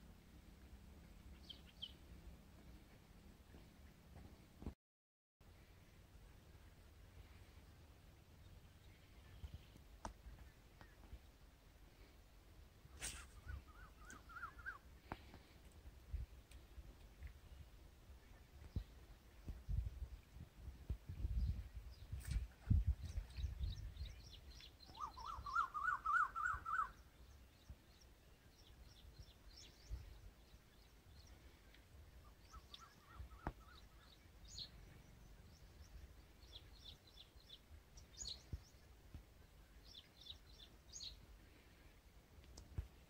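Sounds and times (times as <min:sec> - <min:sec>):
small birds chirping: 0:01.1 - 0:04.6, 0:06.6 - 0:12.2, 0:12.9 - 0:43.0.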